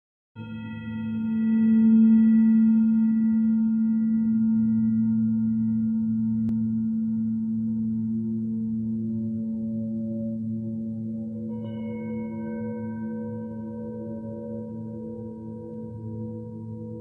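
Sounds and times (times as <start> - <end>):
ringing low drone: 0.4 - 17.0
soft ambient music notes: 0.4 - 17.0
softly pulsing low layer: 0.4 - 17.0.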